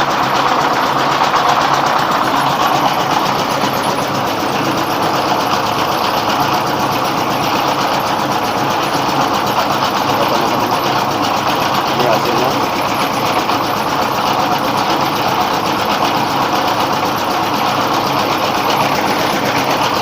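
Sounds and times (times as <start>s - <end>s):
diesel engine beat: 0.0s - 20.0s
rice milling machine running: 0.0s - 20.0s.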